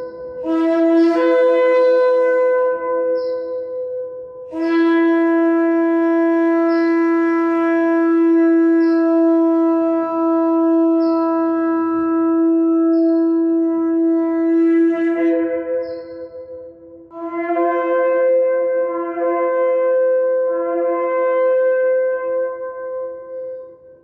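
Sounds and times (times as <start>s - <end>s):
shofar blowing long note: 0.0s - 24.0s.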